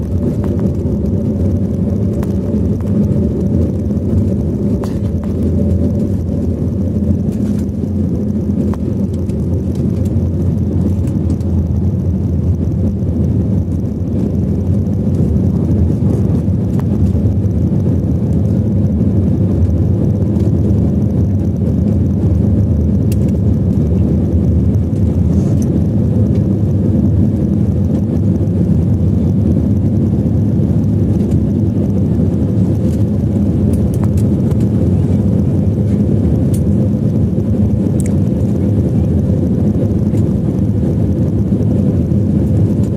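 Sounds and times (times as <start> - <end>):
jet engine rumble in cabin: 0.0 - 42.9.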